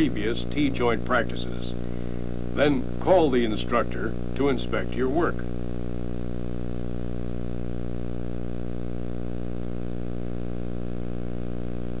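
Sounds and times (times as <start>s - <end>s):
electrical mains hum: 0.0s - 12.0s
faint high whine: 0.0s - 12.0s.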